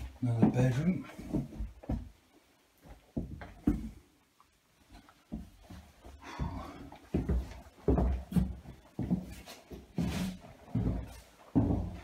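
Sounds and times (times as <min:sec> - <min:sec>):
footsteps on wooden floorboards: 0:00.0 - 0:04.1, 0:04.9 - 0:12.0.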